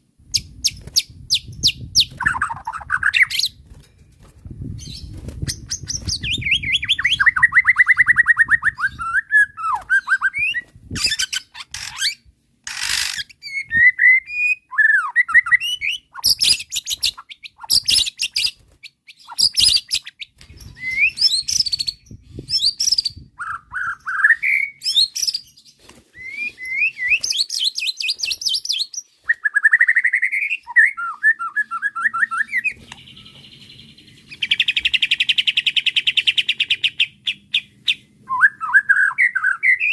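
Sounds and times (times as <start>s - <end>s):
songbird singing varied song: 0.2s - 3.6s, 4.6s - 39.9s.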